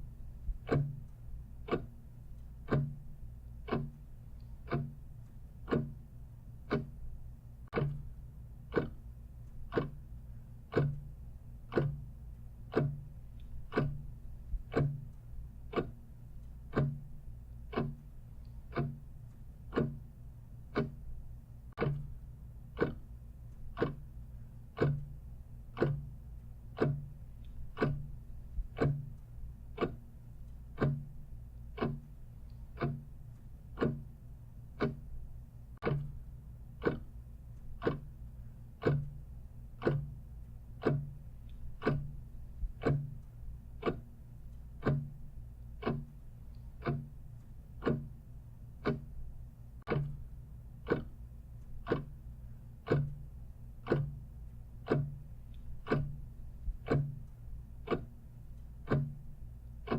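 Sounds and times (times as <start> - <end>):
clock ticking: 0.0 - 59.9
low steady hum: 0.0 - 59.9.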